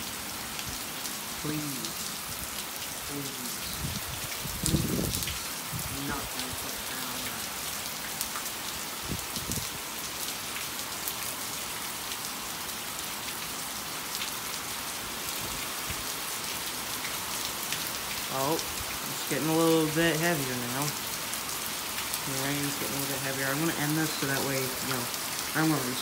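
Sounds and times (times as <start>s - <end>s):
rain on wet ground: 0.0s - 26.0s.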